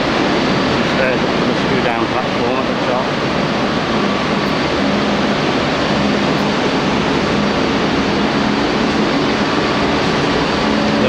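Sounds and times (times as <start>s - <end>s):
industrial machinery drone: 0.0s - 11.0s
low hum: 0.0s - 11.0s.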